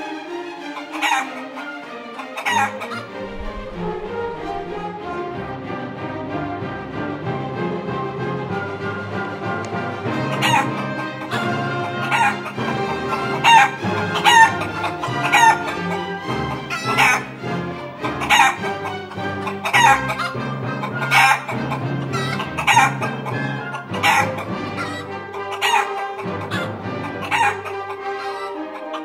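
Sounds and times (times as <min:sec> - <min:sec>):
hens squawking and clucking: 0:00.0 - 0:05.3, 0:10.0 - 0:29.0
music with sustained tones: 0:00.0 - 0:29.0.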